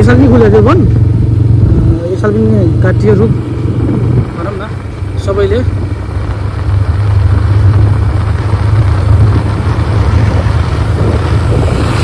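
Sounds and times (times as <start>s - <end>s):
motorcycle running: 0.0s - 12.0s
wind on microphone: 0.0s - 12.0s.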